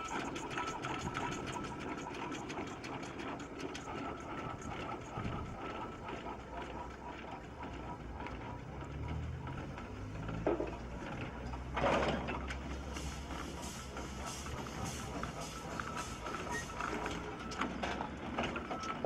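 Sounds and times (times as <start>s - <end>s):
steam engine mechanical clatter: 0.0s - 19.0s.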